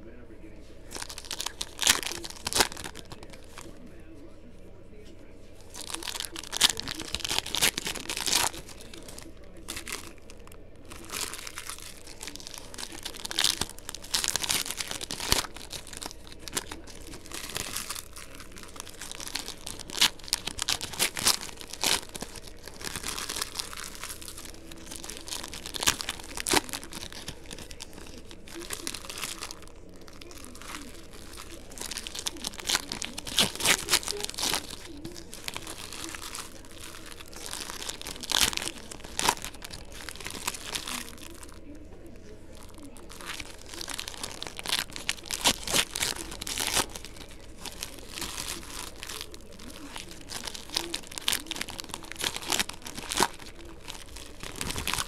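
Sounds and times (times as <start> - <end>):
wrappers crinkling and tearing: 0.1 - 55.0
cards shuffled by hand: 0.6 - 3.9, 5.0 - 55.0.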